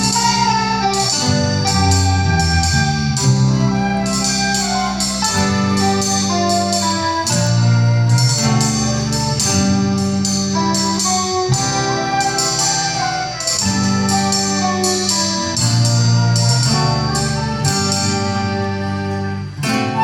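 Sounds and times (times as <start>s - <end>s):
live band instrumental: 0.0s - 20.0s.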